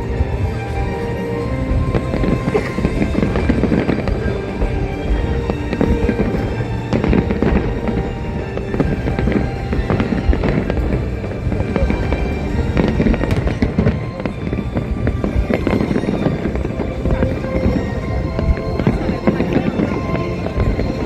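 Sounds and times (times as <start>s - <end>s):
fireworks crackling and popping: 0.0s - 21.0s
music playing: 0.0s - 21.0s.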